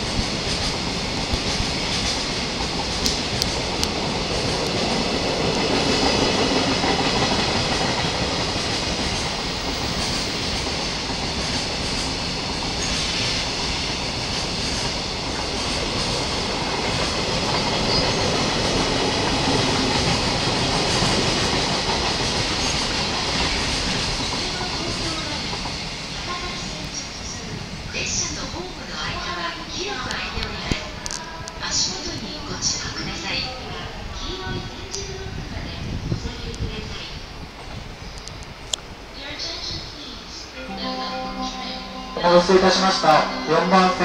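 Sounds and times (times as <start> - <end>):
train wheels rumbling on rails: 0.0 - 40.6.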